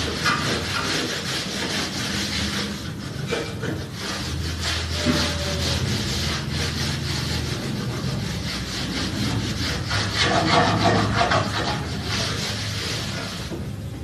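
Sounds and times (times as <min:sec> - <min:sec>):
scraping ink off a table: 0:00.0 - 0:13.7.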